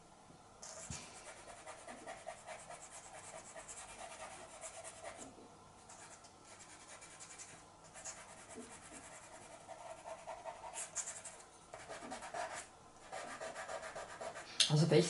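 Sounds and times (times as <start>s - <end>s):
pencil scratching on card: 0.6s - 5.3s, 5.9s - 14.4s.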